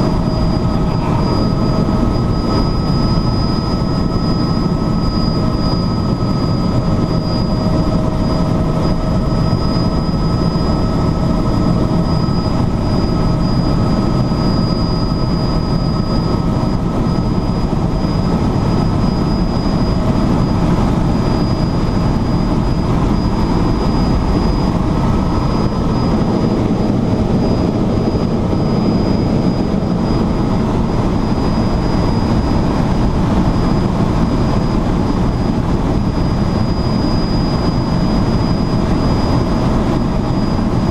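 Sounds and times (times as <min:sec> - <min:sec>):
helicopter rotor and engine: 0:00.0 - 0:40.9
high whine: 0:00.0 - 0:40.9.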